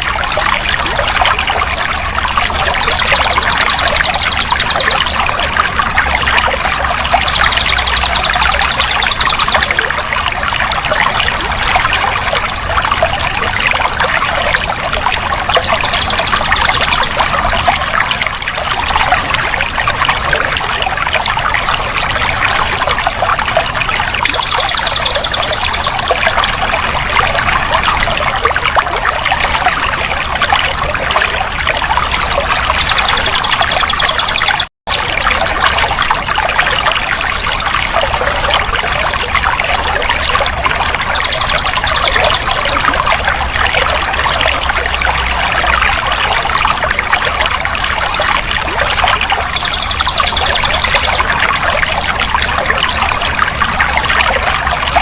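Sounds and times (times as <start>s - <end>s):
water trickling and pouring: 0.0s - 55.0s.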